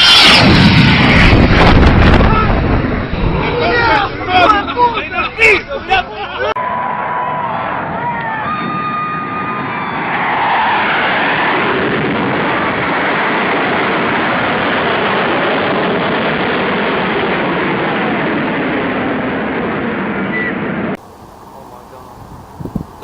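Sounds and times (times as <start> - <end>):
fighter jet roar: 0.0 - 23.0.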